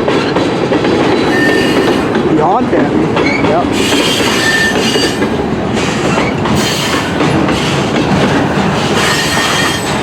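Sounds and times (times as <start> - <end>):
train wheels on rails: 0.0 - 10.0.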